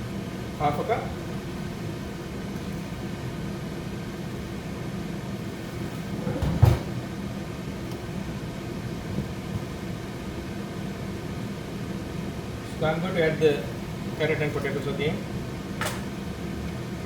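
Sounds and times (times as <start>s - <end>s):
low kitchen hum: 0.0s - 17.0s.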